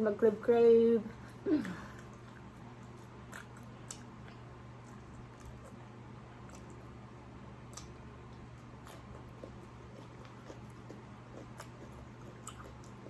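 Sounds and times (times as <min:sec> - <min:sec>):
steady low hum: 0:00.0 - 0:13.0
person chewing food: 0:01.2 - 0:13.0.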